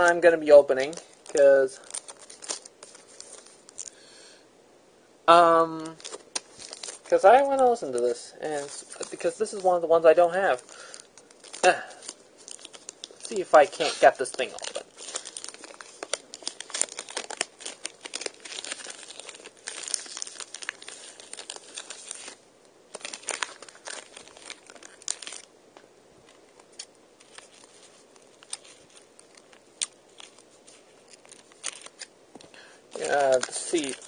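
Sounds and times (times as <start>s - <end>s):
plastic packaging crinkling: 0.0s - 4.0s, 5.8s - 25.5s, 26.2s - 34.0s.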